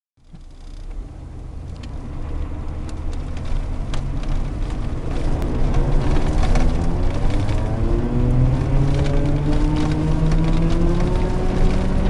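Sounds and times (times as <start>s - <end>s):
pickup truck engine rumble: 0.2s - 12.0s.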